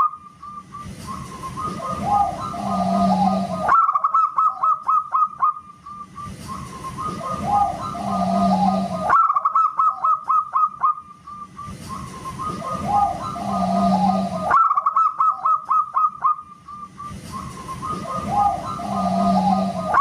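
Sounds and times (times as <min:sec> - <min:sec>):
dove singing whistle-like song: 0:00.0 - 0:20.0.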